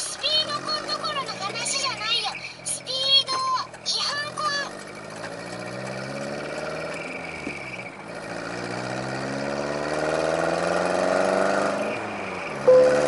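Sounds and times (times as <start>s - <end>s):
truck engine accelerating: 0.0s - 13.0s.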